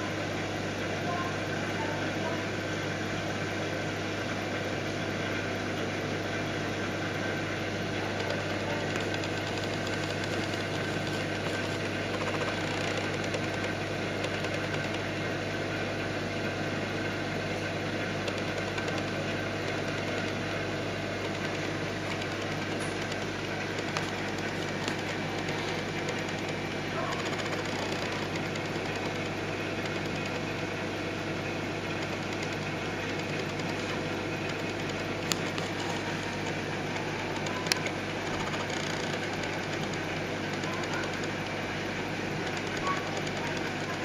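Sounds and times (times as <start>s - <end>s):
aquarium pump hum: 0.0s - 44.0s.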